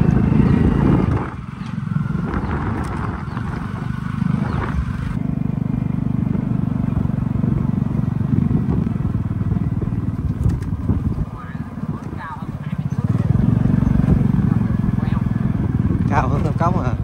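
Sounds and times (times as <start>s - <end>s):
rushing wind noise: 0.0s - 5.2s, 6.1s - 17.0s
small motorbike engine running: 0.0s - 17.0s.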